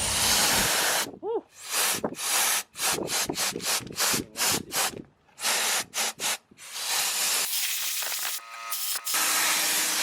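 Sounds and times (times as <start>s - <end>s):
compressed air blow gun hissing: 0.0s - 9.4s.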